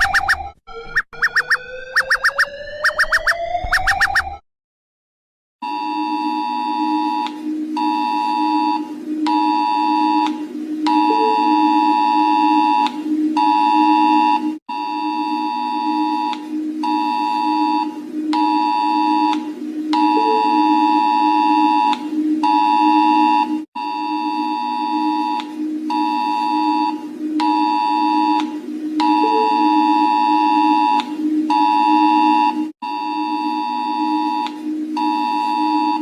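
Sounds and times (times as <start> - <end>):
two-tone alarm signal: 0.0 - 4.4, 5.6 - 36.0
steady low drone: 6.0 - 36.0.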